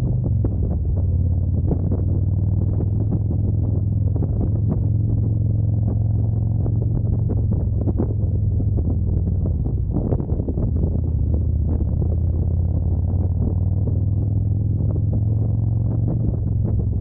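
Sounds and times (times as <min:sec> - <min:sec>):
low mechanical drone: 0:00.0 - 0:17.0.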